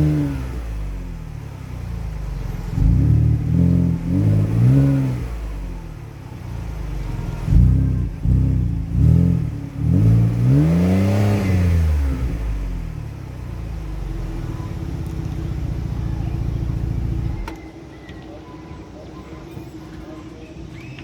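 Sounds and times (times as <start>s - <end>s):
car engine revving and idling: 0.0s - 17.6s.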